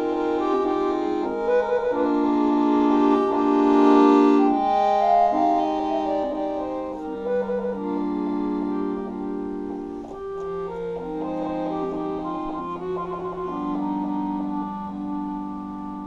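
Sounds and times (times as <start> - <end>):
accordion playing classical piece: 0.0 - 16.0.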